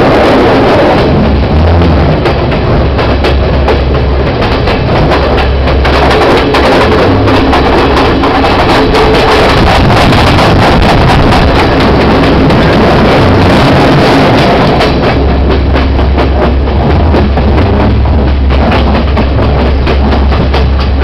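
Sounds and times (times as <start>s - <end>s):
train rumble: 0.0s - 21.0s
wheels clattering on rails: 0.0s - 21.0s
wind buffeting microphone: 0.0s - 21.0s.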